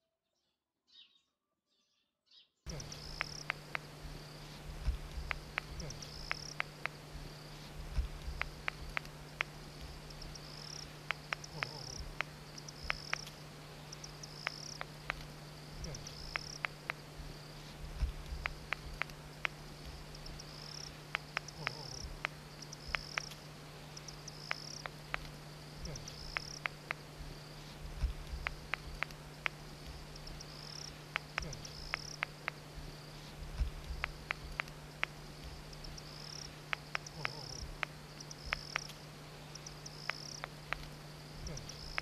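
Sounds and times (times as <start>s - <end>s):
owl chick bill clicks: 2.7s - 17.3s, 18.0s - 42.0s.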